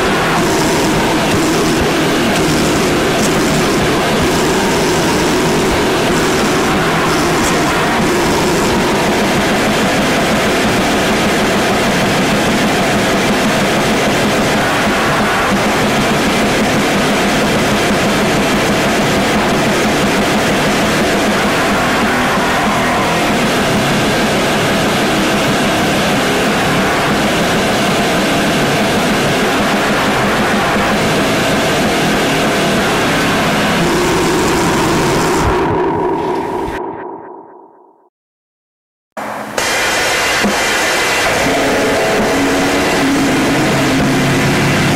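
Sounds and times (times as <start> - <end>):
wall of distorted noise: 0.0 - 38.1, 39.2 - 44.9.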